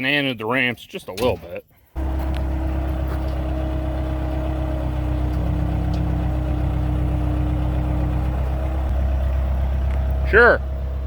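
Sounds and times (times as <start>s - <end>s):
diesel engine idling: 2.0s - 11.0s.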